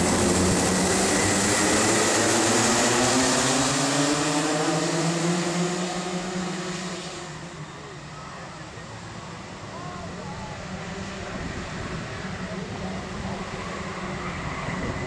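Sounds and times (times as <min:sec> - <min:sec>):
racing kart engines passing: 0:00.0 - 0:15.0.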